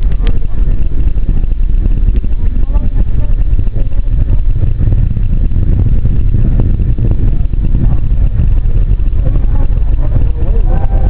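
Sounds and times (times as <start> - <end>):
rocket booster roaring: 0.0 - 11.0.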